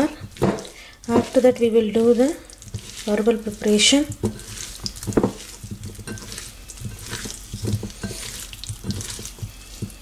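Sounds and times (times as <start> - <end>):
squelching and scraping strokes: 1.1 - 10.0.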